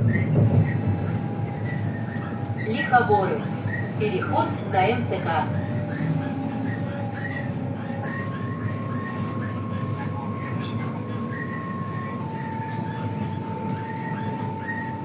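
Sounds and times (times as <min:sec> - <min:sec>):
electric train running rumble: 0:00.0 - 0:15.0.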